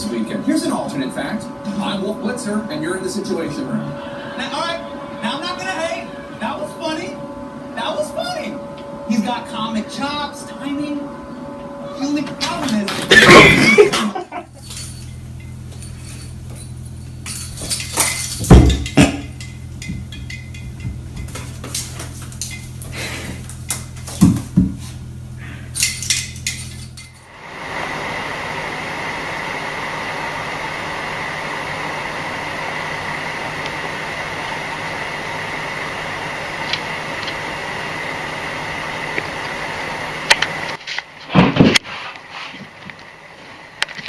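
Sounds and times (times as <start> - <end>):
low steady hum: 0.0 - 41.8
faint high whine: 0.0 - 44.0.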